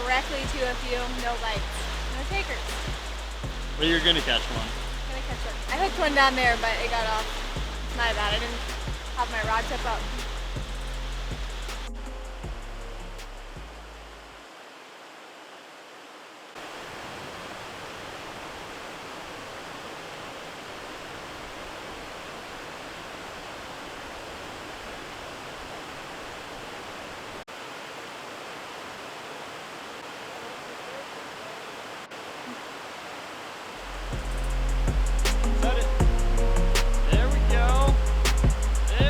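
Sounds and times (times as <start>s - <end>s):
mountain creek water rushing: 0.0s - 39.0s.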